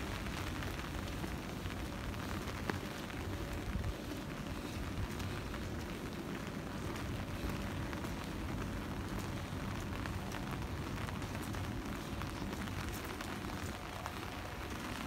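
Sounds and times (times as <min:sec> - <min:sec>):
rain falling on pavement: 0:00.0 - 0:15.0.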